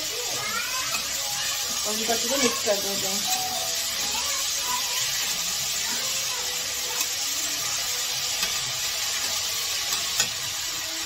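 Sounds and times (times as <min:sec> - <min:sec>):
food frying hiss: 0:00.0 - 0:11.0
metal spatula scraping: 0:00.8 - 0:10.8.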